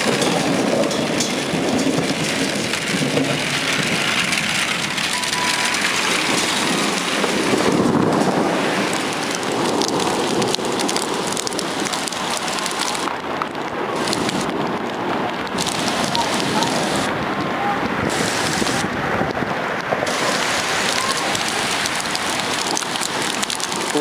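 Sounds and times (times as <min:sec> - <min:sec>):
heavy rain pouring: 0:00.0 - 0:24.0
raindrops ticking on hard surfaces: 0:00.0 - 0:24.0.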